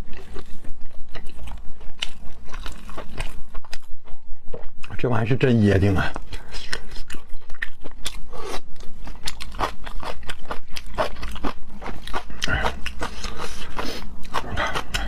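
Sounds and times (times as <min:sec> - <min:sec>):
close chewing: 0:00.0 - 0:05.0, 0:05.6 - 0:15.0.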